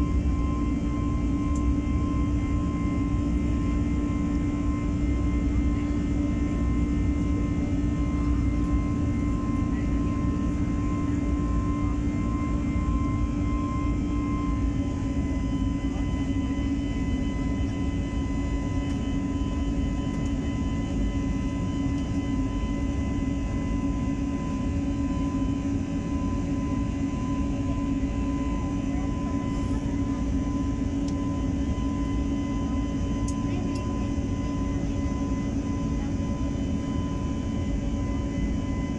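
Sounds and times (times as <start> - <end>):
jet engines heard from cabin: 0.0 - 38.9.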